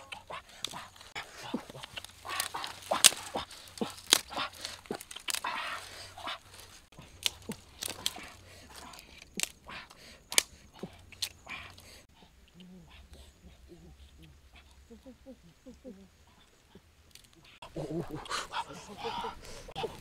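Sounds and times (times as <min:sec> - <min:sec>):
twigs snapping: 0:00.0 - 0:13.6, 0:16.5 - 0:20.0
brush rustling: 0:00.0 - 0:20.0.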